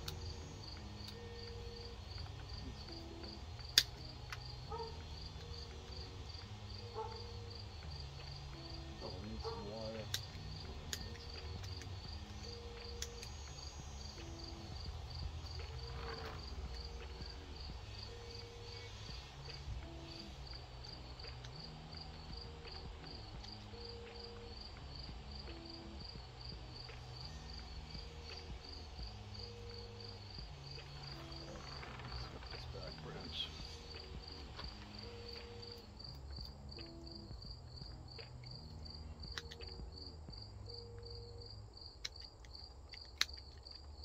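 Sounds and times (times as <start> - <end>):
cricket chirping: 0.0 - 44.0.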